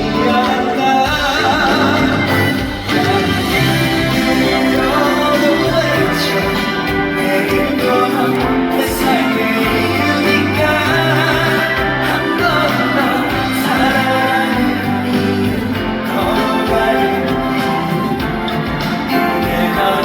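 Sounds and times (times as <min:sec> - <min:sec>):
live band playing: 0:00.0 - 0:20.0
person singing: 0:00.0 - 0:20.0.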